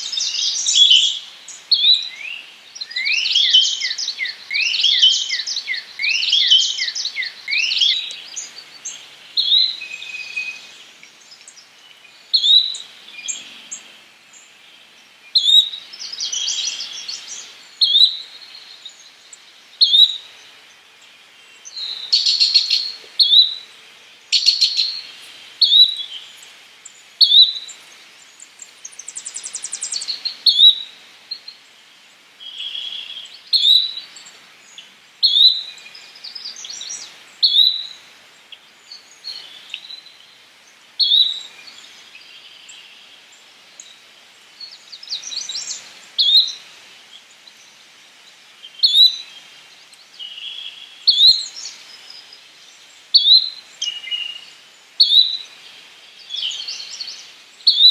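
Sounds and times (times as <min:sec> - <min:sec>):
flycatcher calling: 0:00.0 - 0:14.5, 0:15.3 - 0:20.4, 0:21.6 - 0:31.6, 0:32.4 - 0:38.0, 0:41.0 - 0:41.5, 0:44.6 - 0:47.7, 0:48.6 - 0:52.2, 0:52.9 - 0:57.9.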